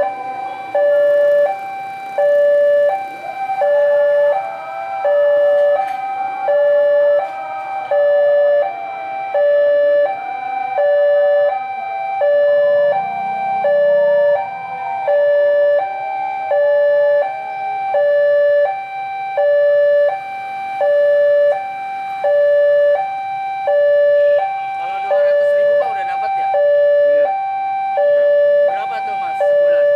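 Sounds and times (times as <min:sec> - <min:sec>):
faint wavering tone: 0:00.0 - 0:29.9
two-tone level crossing alarm: 0:00.0 - 0:29.9.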